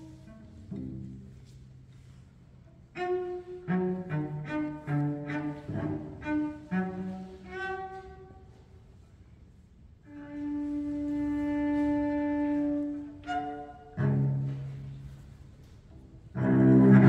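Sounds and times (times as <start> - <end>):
solo cello: 0.0 - 17.0.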